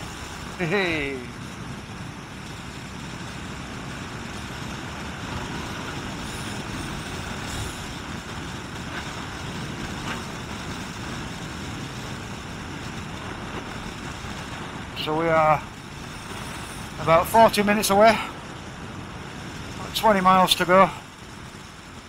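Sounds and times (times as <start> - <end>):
motorcycle engine running: 0.0 - 19.9
wind and road rush: 0.0 - 22.0.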